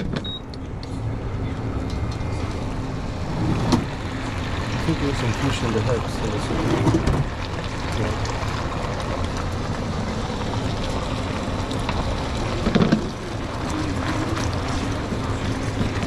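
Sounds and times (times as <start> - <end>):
low rumble and hiss: 0.0 - 16.0.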